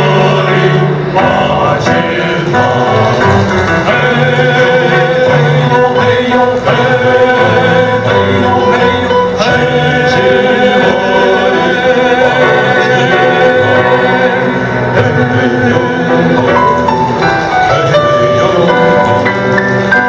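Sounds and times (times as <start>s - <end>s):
electronic keyboard: 0.0s - 20.0s
male vocal group singing: 0.0s - 20.0s.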